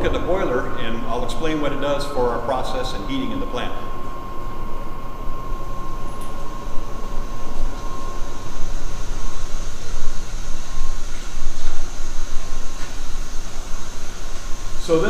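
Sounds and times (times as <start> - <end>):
boiler machinery rumble: 0.0 - 15.0
faint steady whine: 0.0 - 15.0.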